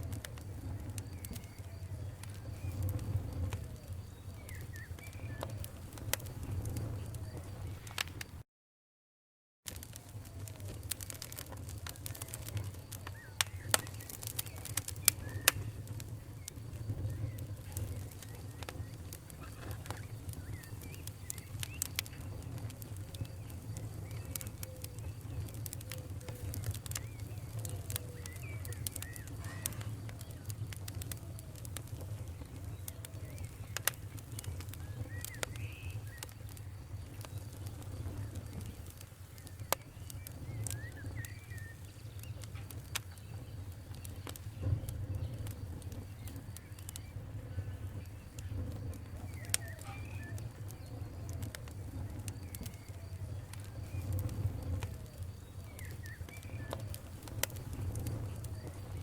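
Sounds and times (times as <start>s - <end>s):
wood fire crackling and popping: 0.0s - 8.4s, 9.7s - 59.0s
faint chirp-like squeaks: 10.6s - 31.2s, 32.3s - 59.0s.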